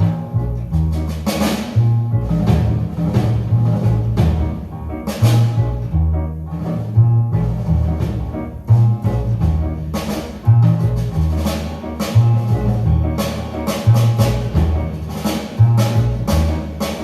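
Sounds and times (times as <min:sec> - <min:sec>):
bass line and drums over loudspeakers: 0:00.0 - 0:17.0.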